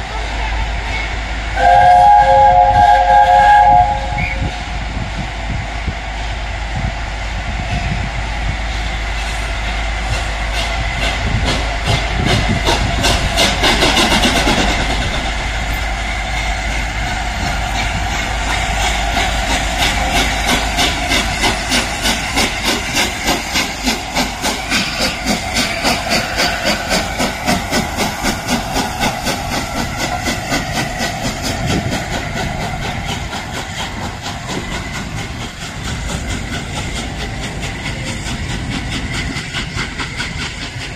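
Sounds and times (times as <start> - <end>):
steam locomotive exhaust beats: 0.0 - 40.9
steam hissing: 0.2 - 40.9.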